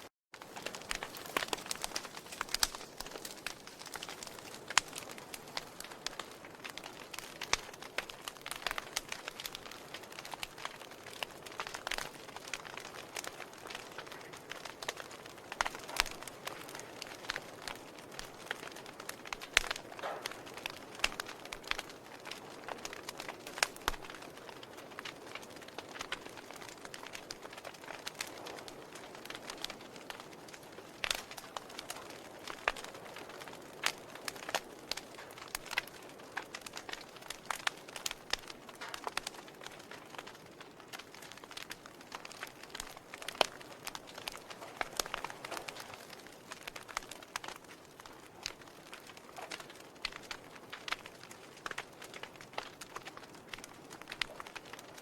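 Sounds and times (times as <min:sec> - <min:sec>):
logs crackling in fireplace: 0:00.4 - 0:55.0.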